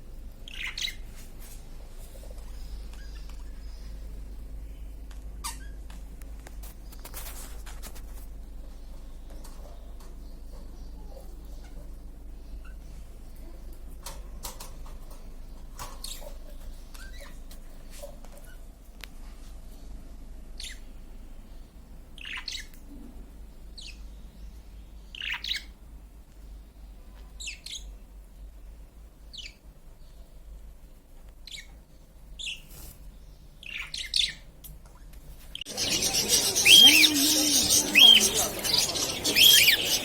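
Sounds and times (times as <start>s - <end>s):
small birds chirping: 0.1s - 1.2s, 2.0s - 18.6s, 20.6s - 40.0s.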